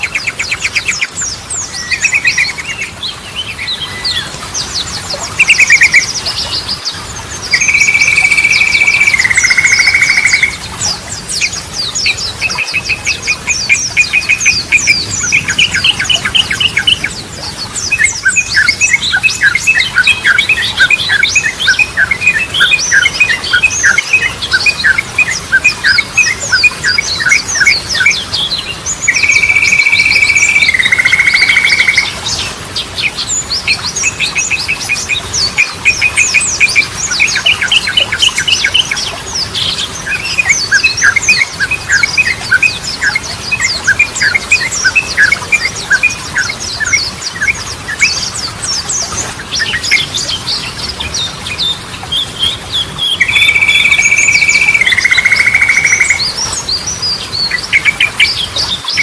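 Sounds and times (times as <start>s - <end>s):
rapid bird chirping and trilling: 0.0s - 59.0s.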